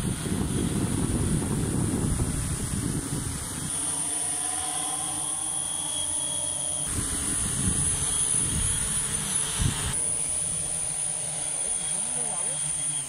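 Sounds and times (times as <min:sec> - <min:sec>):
drones hovering: 0:00.0 - 0:13.0.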